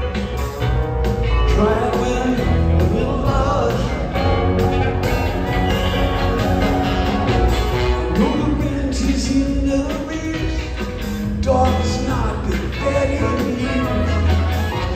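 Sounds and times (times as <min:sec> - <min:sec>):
live band playing: 0:00.0 - 0:14.9.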